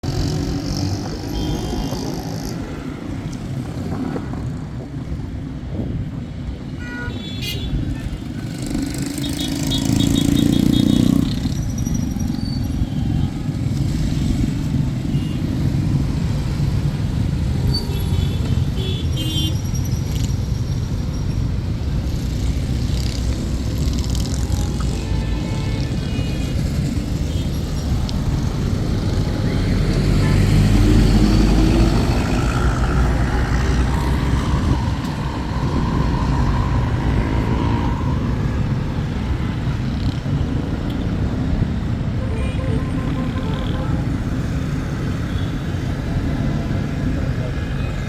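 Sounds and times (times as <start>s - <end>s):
motor vehicle rumbling: 0.0s - 6.8s, 7.7s - 48.0s.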